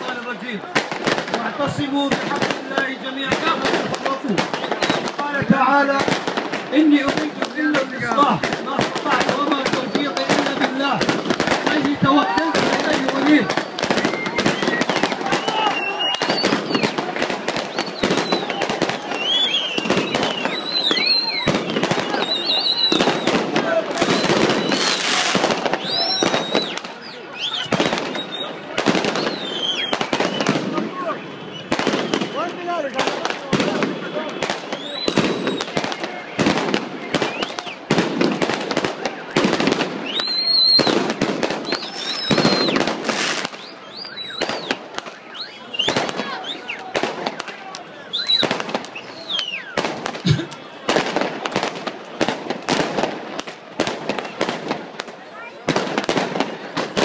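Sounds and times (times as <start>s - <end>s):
fireworks crackling bangs: 0.0s - 57.0s
fireworks whistling: 0.0s - 57.0s.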